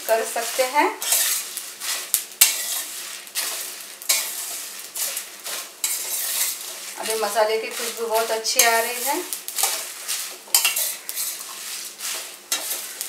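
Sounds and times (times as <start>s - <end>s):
oil sizzling: 0.0s - 13.0s
metal spoon scraping pan: 0.2s - 13.0s.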